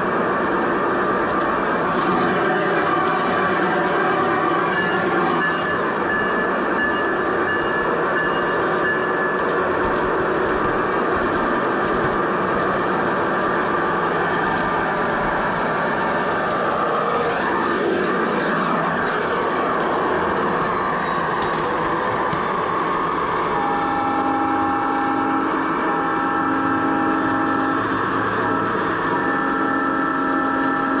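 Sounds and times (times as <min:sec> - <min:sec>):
model train running on track: 0:00.0 - 0:31.0.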